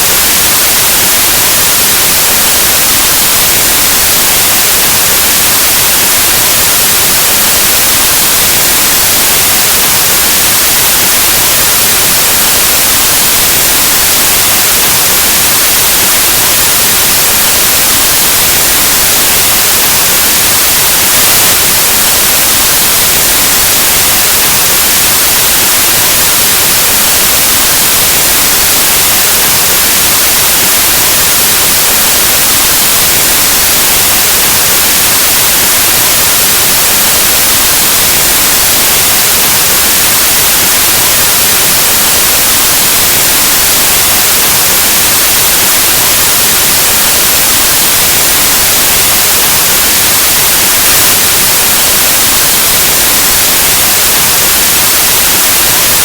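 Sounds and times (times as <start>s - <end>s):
white noise static hiss: 0.0s - 56.0s.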